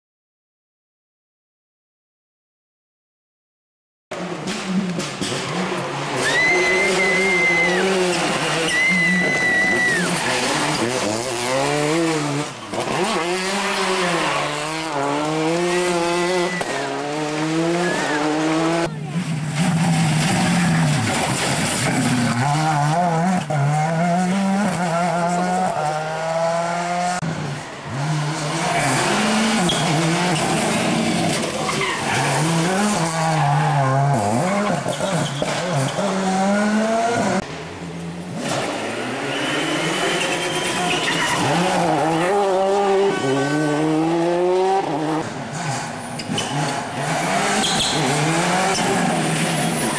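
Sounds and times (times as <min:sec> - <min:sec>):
rally car engines revving: 0:04.1 - 0:49.9.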